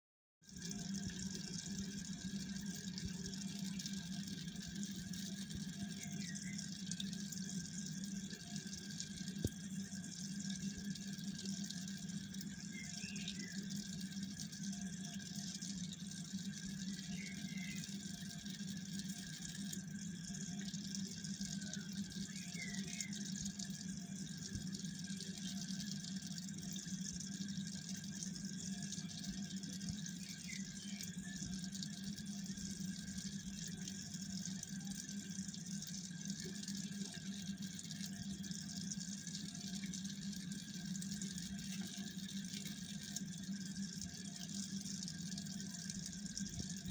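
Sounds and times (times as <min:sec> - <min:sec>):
aquarium pumps humming: 0:00.5 - 0:46.9.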